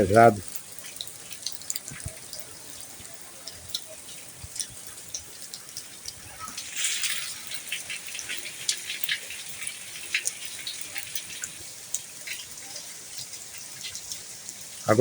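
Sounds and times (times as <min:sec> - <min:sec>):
light rain hiss: 0:00.0 - 0:15.0
rush of water: 0:00.0 - 0:15.0
water drops dripping and splashing: 0:00.0 - 0:15.0.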